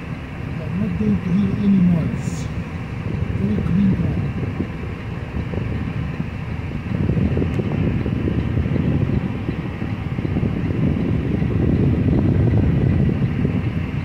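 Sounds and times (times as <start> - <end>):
truck engine rumble from cab: 0.0 - 14.0.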